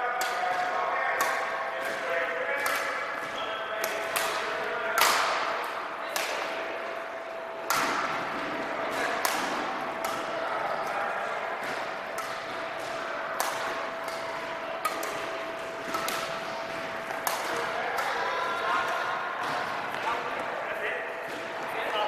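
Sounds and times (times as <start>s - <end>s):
rackets striking shuttlecocks: 0.1s - 21.8s.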